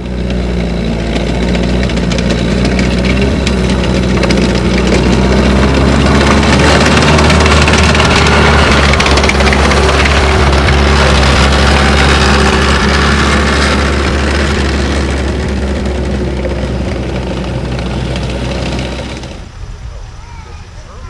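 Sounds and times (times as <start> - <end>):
car engine running: 0.0 - 19.6.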